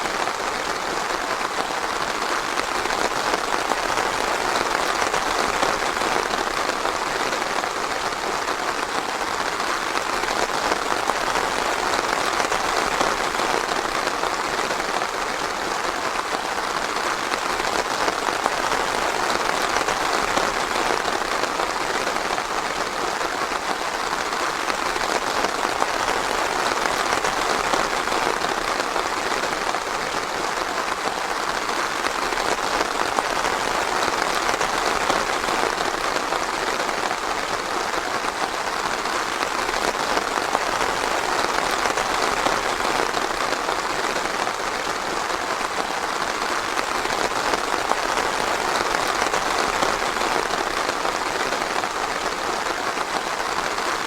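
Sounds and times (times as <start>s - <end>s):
light rain on forest: 0.0s - 54.0s.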